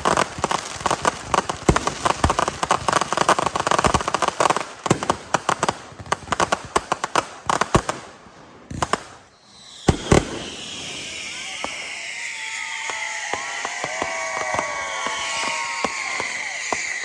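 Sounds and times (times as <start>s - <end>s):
fireworks popping: 0.0s - 17.0s
loud firework bangs: 0.0s - 17.0s.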